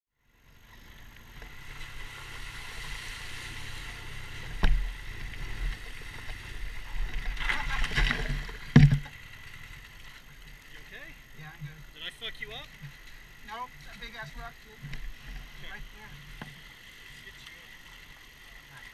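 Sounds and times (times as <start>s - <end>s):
water rushing and splashing: 0.4s - 18.9s.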